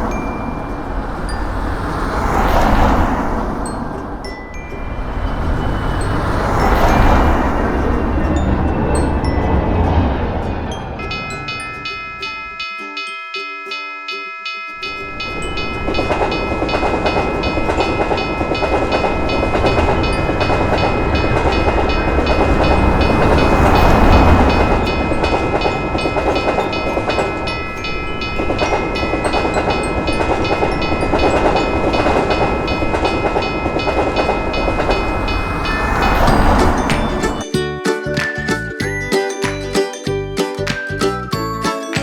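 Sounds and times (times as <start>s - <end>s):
train rumbling past: 0.0s - 13.1s, 14.7s - 41.9s
railroad crossing bell dinging: 0.0s - 42.0s.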